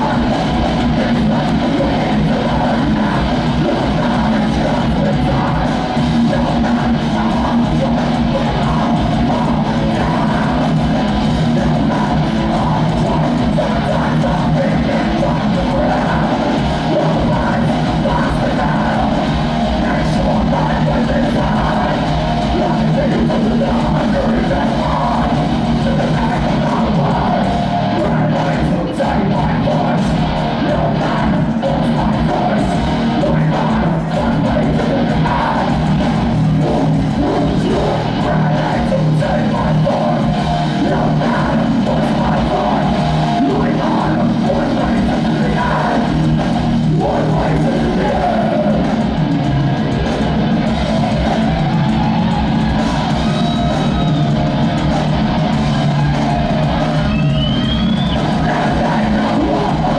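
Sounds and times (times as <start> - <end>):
heavy metal band playing live: 0.0 - 59.9
shouted vocals: 0.0 - 59.9.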